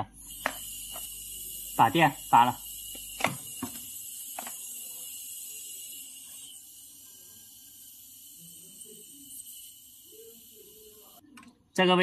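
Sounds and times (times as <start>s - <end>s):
gas hissing from pipe: 0.0s - 11.2s.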